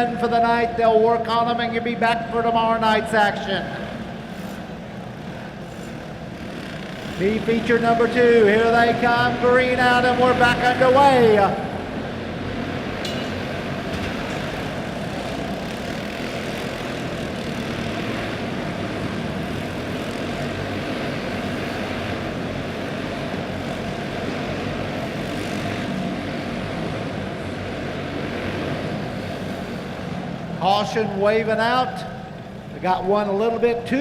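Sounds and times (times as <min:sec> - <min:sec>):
racing kart engines buzzing: 0:00.0 - 0:34.0.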